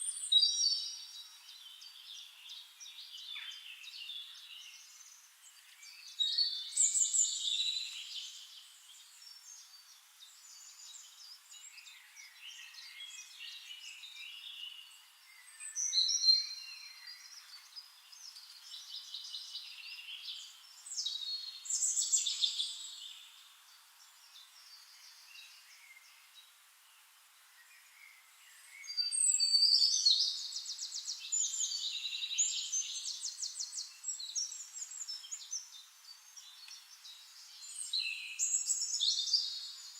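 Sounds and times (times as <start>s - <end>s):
quiet bird twittering: 0.0s - 39.9s
songbirds chirping and trilling: 0.0s - 39.9s.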